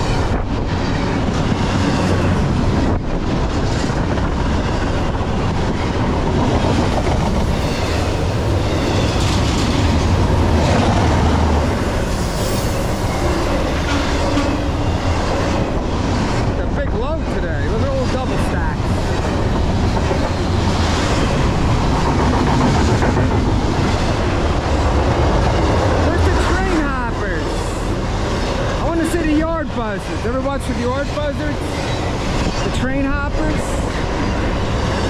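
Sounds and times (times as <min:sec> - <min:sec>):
freight train passing: 0:00.0 - 0:35.0.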